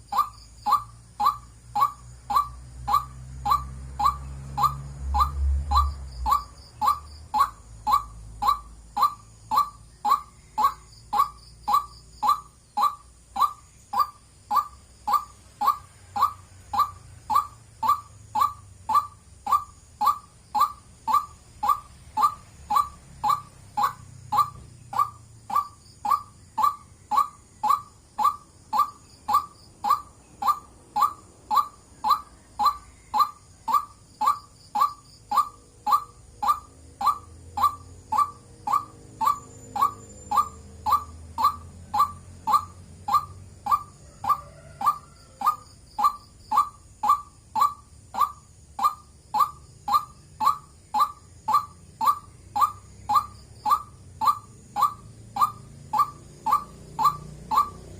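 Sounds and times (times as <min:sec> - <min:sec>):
waterhen calling: 0:00.0 - 0:57.9.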